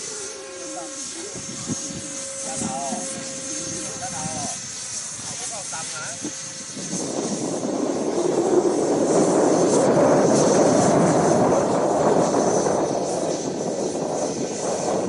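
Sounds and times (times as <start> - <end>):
model jet flying past: 0.0 - 15.0.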